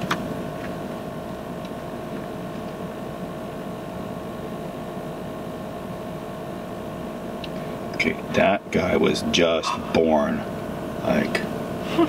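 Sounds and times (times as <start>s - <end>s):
vehicle idling hum: 0.0s - 12.0s.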